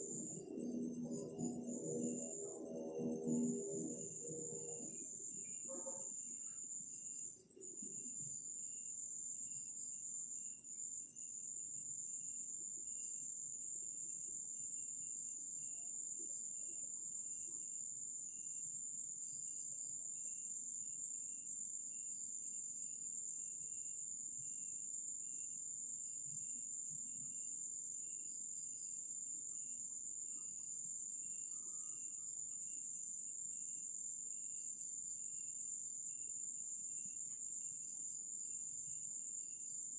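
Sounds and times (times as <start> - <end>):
crickets trilling: 0.0 - 39.9
soft low cricket chirp: 0.0 - 39.9.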